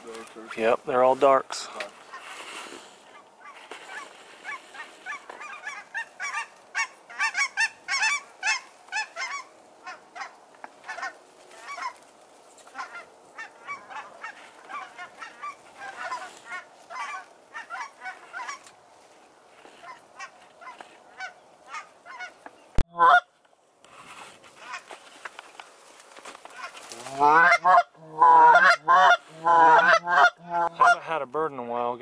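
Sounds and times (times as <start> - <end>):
geese honking: 0.4 - 23.3, 24.5 - 25.0, 26.4 - 31.2.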